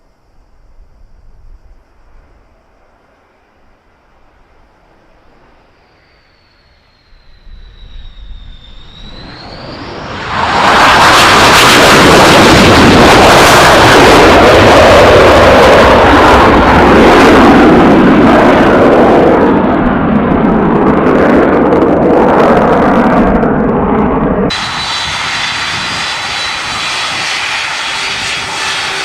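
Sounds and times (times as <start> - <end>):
jet aircraft engines roaring: 0.0 - 29.0.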